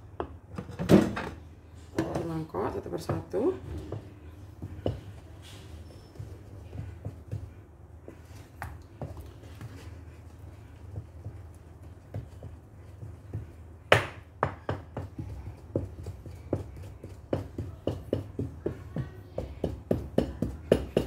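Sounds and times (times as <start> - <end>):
spoon stirring batter in metal bowl: 2.0 - 21.0.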